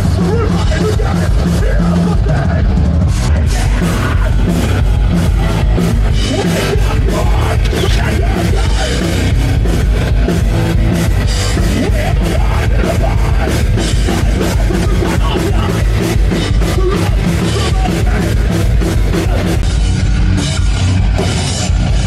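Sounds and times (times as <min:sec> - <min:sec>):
heavy metal music: 0:00.0 - 0:22.0.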